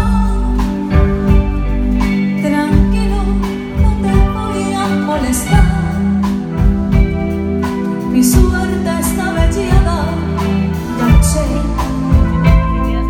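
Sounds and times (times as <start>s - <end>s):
drum strokes: 0.0s - 13.0s
live band playing slow song: 0.0s - 13.0s
woman singing: 0.0s - 13.0s.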